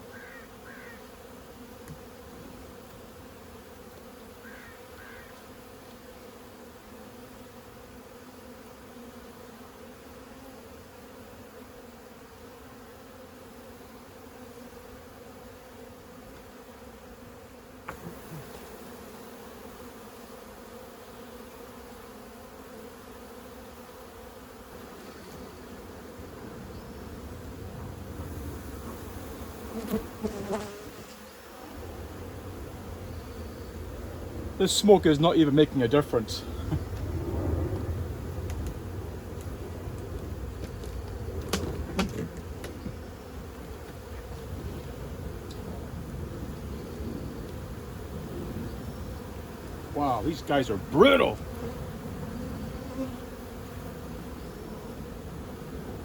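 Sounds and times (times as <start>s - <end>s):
honey bees humming: 0.0s - 56.0s.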